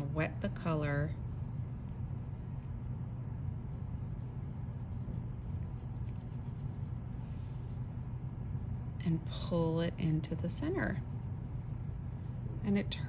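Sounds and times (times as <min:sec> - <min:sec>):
steady low hum: 0:00.0 - 0:13.0
paintbrush scratching on paper: 0:01.1 - 0:11.6.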